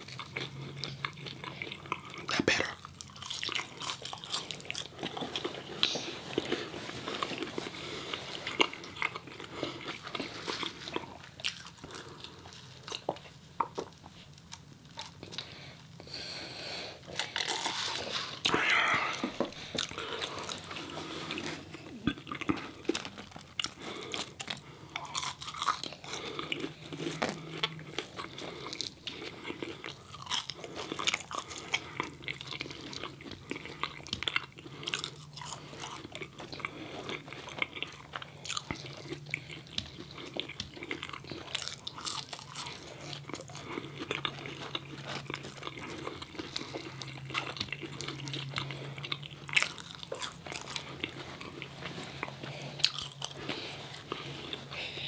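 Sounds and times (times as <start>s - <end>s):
crunchy bites and chewing: 0.0s - 16.0s, 17.0s - 55.0s.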